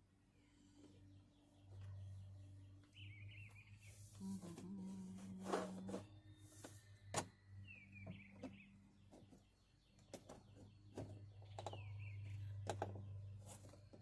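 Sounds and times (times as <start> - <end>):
bird chirping: 0.7 - 14.0.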